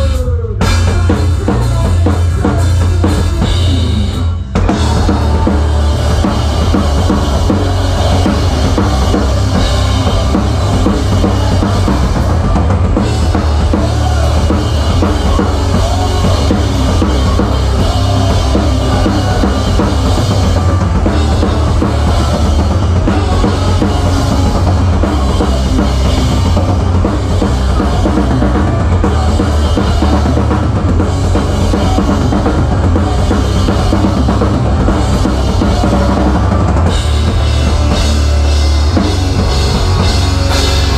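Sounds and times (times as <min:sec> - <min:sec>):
band playing low end: 0:00.0 - 0:40.9.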